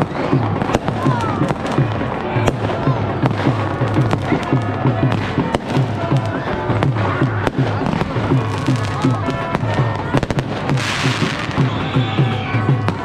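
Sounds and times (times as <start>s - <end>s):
fireworks and firecrackers banging: 0.0s - 13.0s
music with a steady beat: 0.0s - 13.0s
voices: 0.0s - 13.0s.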